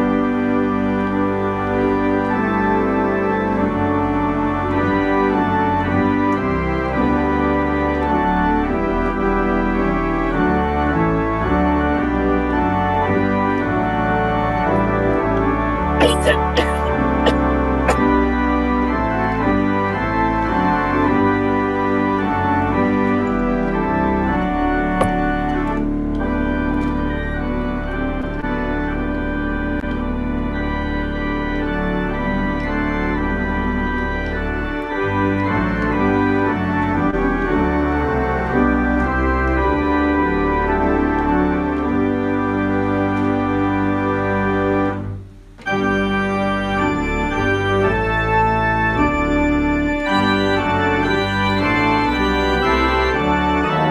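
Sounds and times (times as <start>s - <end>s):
organ playing sustained chords: 0.0s - 53.9s.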